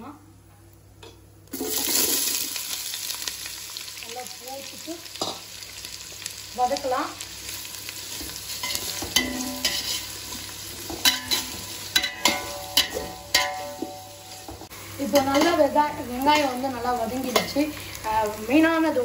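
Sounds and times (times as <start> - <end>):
onions sizzling in hot oil: 1.4 - 19.0.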